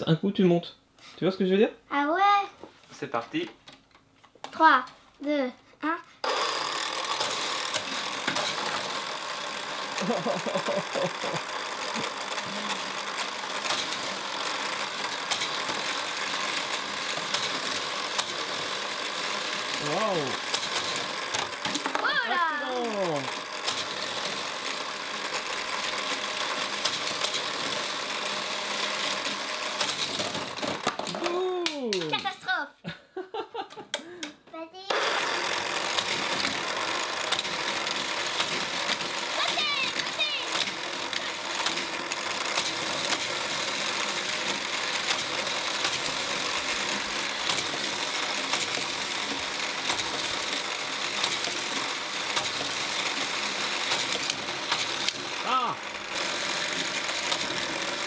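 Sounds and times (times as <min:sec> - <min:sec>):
toy track booster whirring: 0:04.4 - 0:32.7, 0:33.6 - 0:58.0
toy cars rattling on plastic track: 0:06.2 - 0:32.7, 0:34.9 - 0:58.0.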